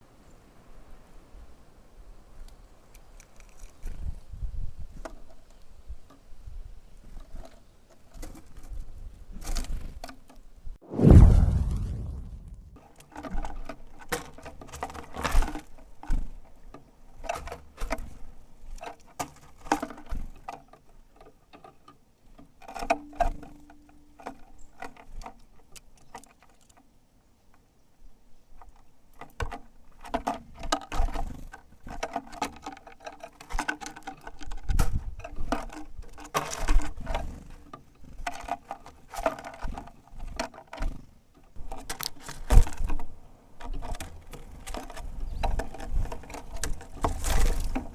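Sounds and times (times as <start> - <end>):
birds pecking at seeds: 2.1 - 10.6, 12.8 - 47.9.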